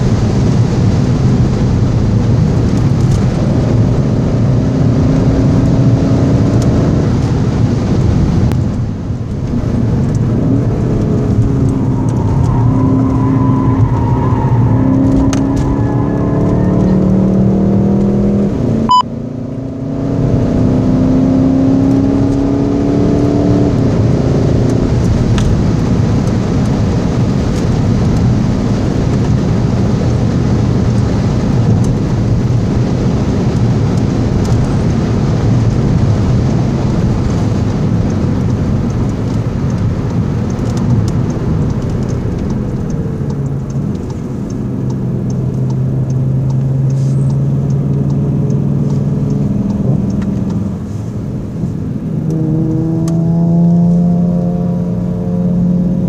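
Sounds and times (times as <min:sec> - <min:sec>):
car engine at high speed: 0:00.0 - 0:56.0
road and wind noise: 0:00.0 - 0:56.0.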